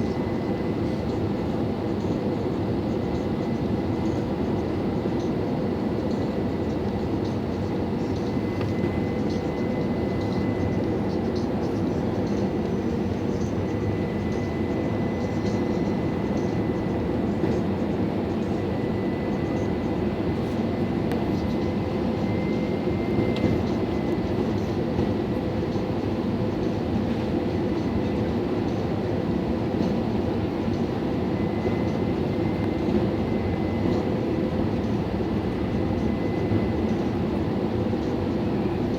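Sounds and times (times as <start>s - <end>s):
aircraft engine and airflow rush: 0.0s - 38.9s.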